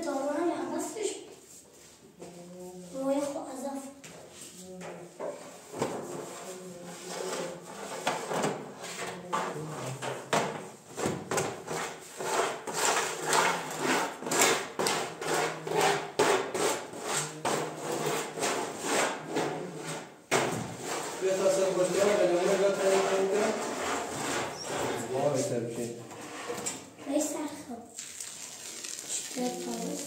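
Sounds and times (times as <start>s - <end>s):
scraping strokes on wood: 1.4s - 10.0s, 11.0s - 26.8s.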